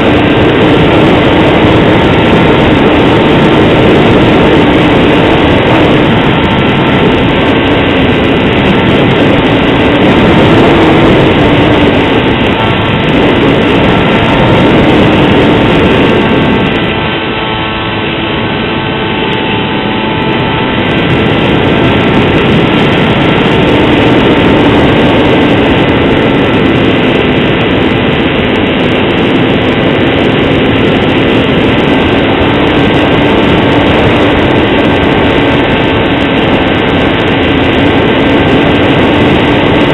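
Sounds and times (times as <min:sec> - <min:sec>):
model plane motor drone with whine: 0:00.0 - 0:39.9
rushing air: 0:00.0 - 0:39.9.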